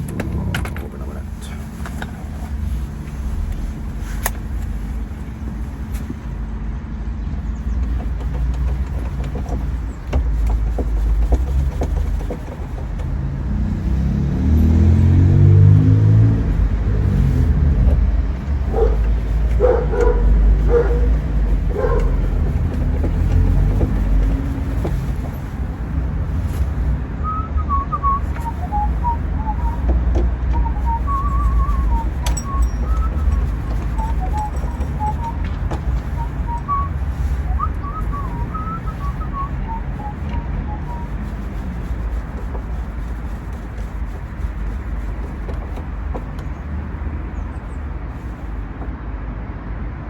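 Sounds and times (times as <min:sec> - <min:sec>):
vehicle engine and road rumble: 0:00.0 - 0:50.0.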